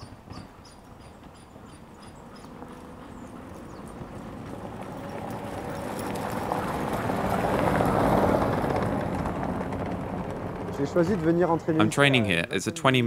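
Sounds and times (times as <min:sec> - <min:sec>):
sled dog team passing: 0:00.0 - 0:12.5.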